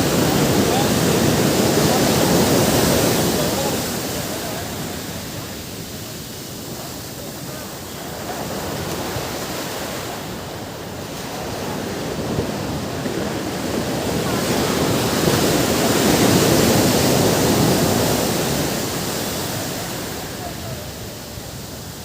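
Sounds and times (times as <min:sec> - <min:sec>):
ocean surf wave rushing: 0:00.0 - 0:22.0.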